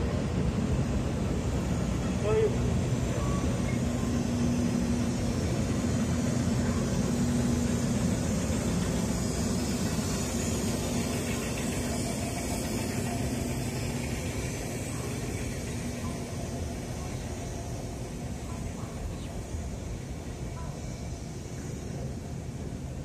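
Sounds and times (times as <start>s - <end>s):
electric locomotive humming: 0.0s - 23.0s
freight wagons rumbling past: 0.0s - 23.0s.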